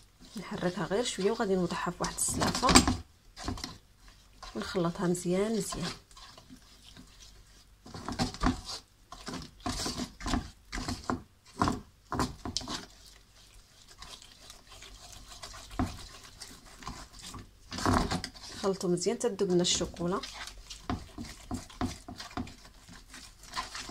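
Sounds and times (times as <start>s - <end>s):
wooden spoon scraping a pan: 0.0s - 23.9s.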